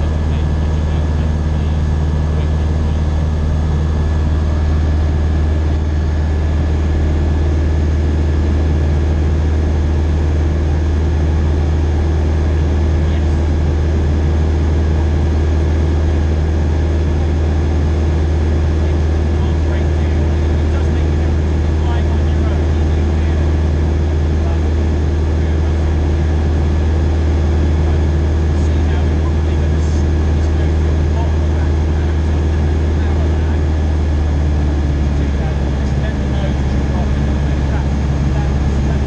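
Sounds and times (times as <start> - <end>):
propeller aircraft engine drone: 0.0 - 39.0.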